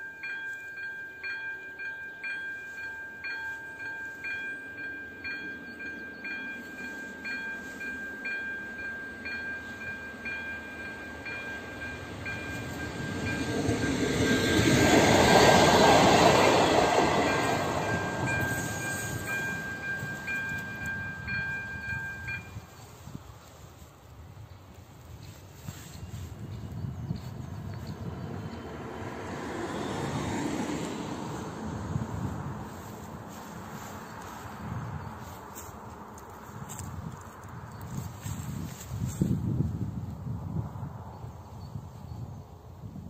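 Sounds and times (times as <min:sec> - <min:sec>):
passing train rumble: 0:00.0 - 0:43.0.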